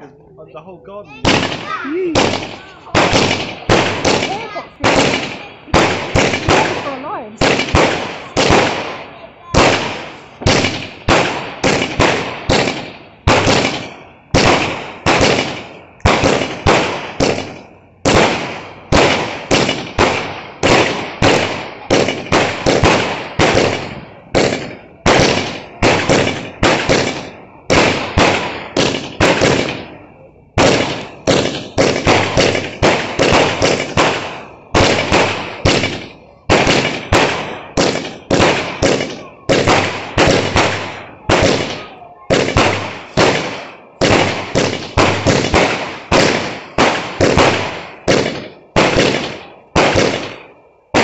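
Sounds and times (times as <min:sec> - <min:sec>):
firework bangs: 0:01.0 - 0:51.0.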